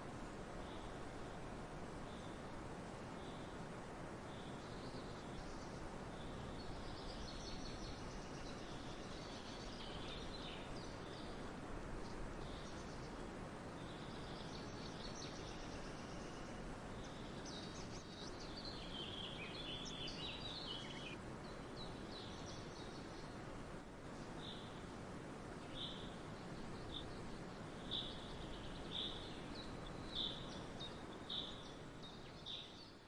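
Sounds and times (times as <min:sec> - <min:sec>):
background hiss: 0:00.0 - 0:33.0
small birds chirping: 0:04.2 - 0:23.4, 0:24.0 - 0:24.9, 0:25.5 - 0:33.0.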